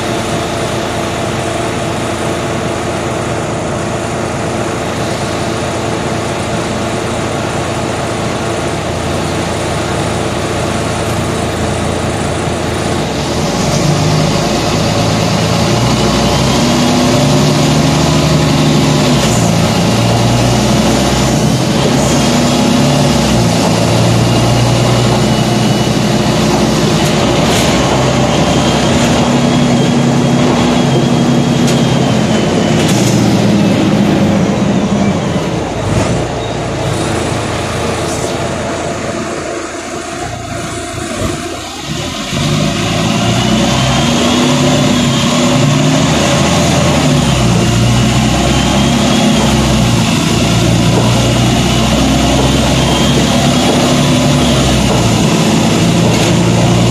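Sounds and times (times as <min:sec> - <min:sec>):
bus engine running: 0:00.0 - 0:56.9.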